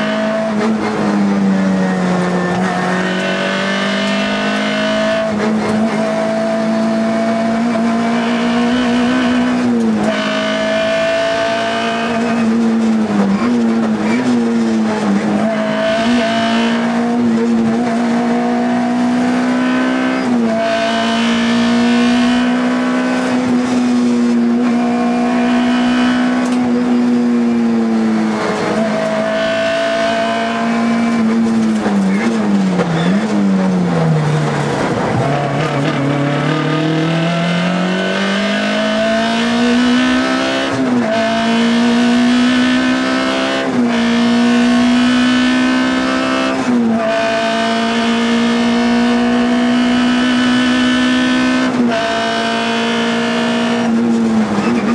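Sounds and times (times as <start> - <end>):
rally car engine at full throttle: 0.0 - 54.9.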